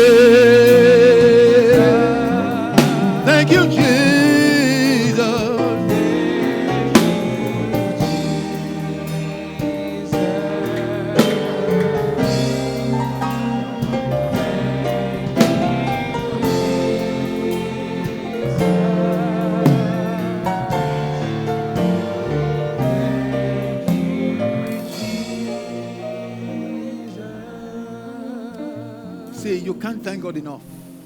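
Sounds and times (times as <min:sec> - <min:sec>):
slow gospel worship music: 0:00.0 - 0:31.0.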